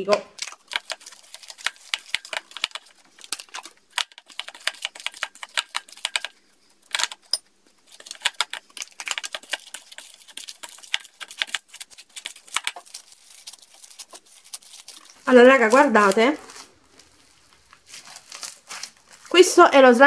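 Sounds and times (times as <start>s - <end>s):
crunchy slime crackling: 0.3s - 7.2s, 7.8s - 19.5s.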